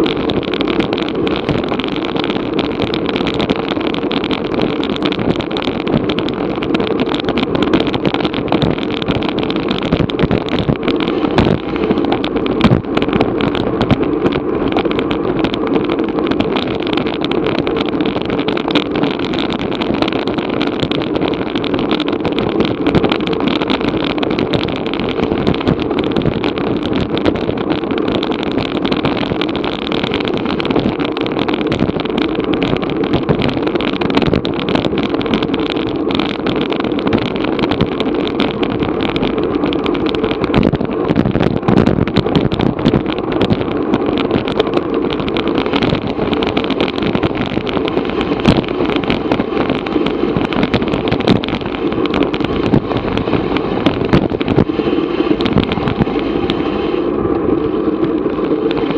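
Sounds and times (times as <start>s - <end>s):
small crackles and knocks: 0.0s - 58.9s
wind on microphone: 0.0s - 58.9s.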